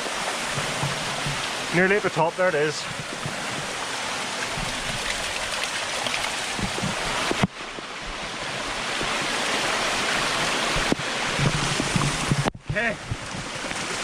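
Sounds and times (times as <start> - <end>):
waterfall rushing and splashing: 0.0 - 14.0.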